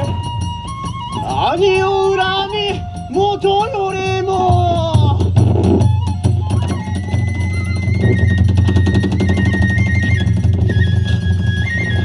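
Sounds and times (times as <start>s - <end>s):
rapid drumming: 0.0s - 12.0s.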